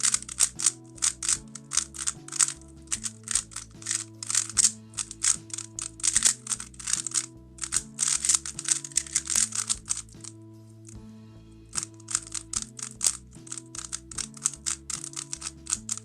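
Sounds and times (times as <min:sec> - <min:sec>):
puzzle cube clicking as turned: 0:00.0 - 0:10.3, 0:11.8 - 0:16.0
background music: 0:00.0 - 0:16.0.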